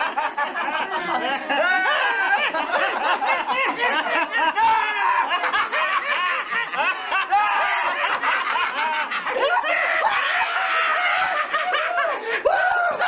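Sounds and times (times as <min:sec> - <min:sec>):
men laughing: 0:00.0 - 0:13.0.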